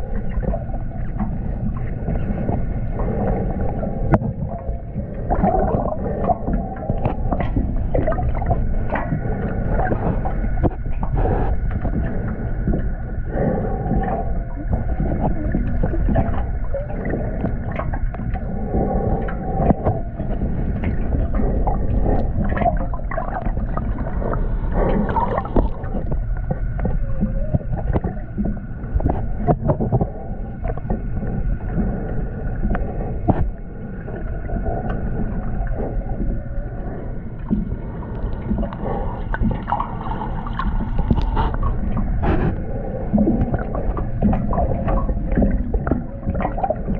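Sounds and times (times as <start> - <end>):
underwater clicks and gurgles: 0.0 - 46.9
underwater rumble: 0.0 - 46.9.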